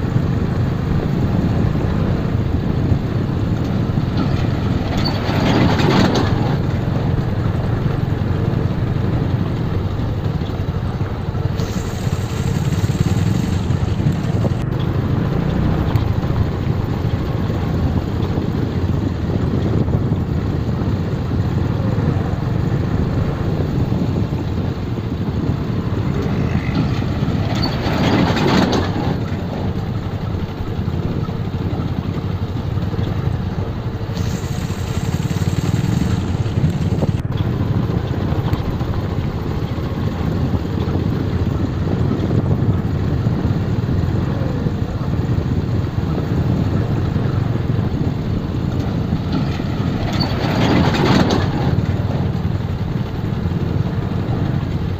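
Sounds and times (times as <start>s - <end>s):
motorcycle engine: 0.0s - 54.9s
road rumble: 0.0s - 54.9s.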